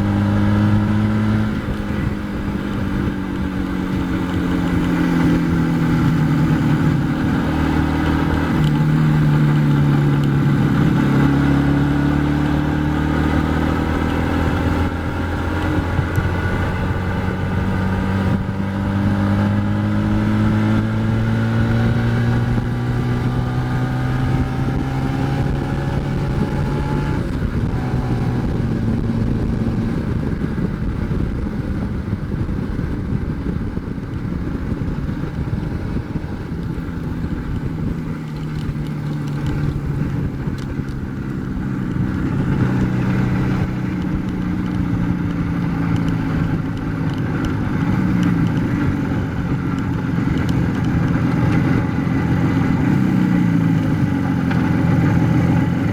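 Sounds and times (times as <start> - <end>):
motorcycle engine riding: 0.0 - 55.9
steady rushing noise: 0.0 - 55.9.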